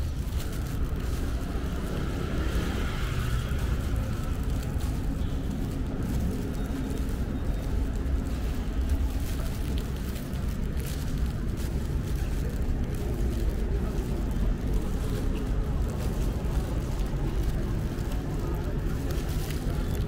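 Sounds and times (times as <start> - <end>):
faint background voices: 0.0 - 20.0
road traffic rumble: 0.0 - 20.0.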